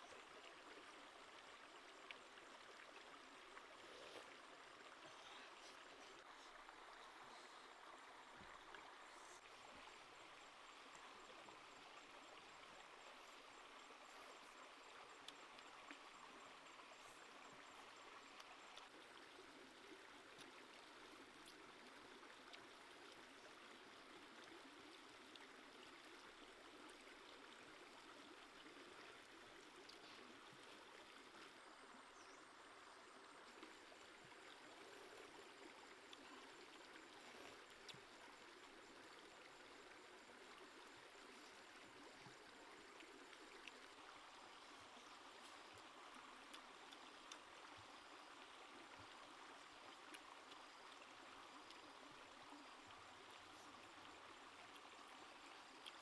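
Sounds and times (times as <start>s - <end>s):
stream running water: 0.0s - 56.0s.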